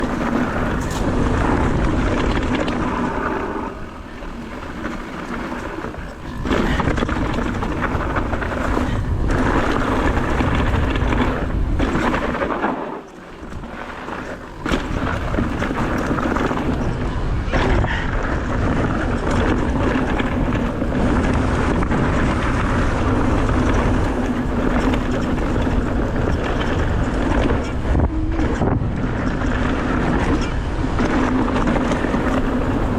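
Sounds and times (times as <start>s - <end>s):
bike knocking and rattling: 0.0s - 32.9s
bike tyre rumble: 0.0s - 32.9s
wind noise on microphone: 0.0s - 32.9s.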